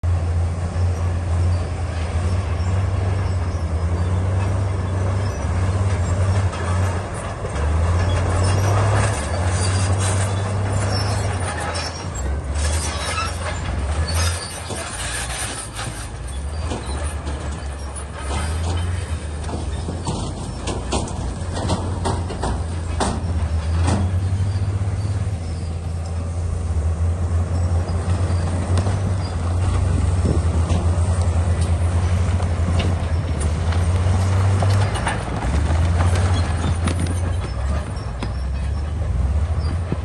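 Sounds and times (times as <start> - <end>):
bulldozer diesel engine drone: 0.0 - 40.0
clatter and knocks: 4.3 - 24.7, 28.0 - 40.0.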